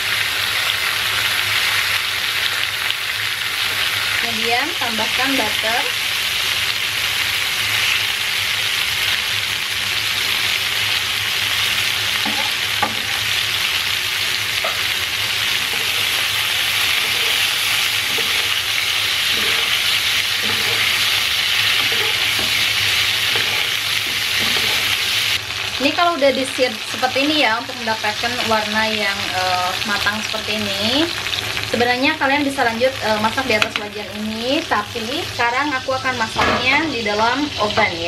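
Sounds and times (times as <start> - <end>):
meat sizzling in a frying pan: 0.0 - 38.0.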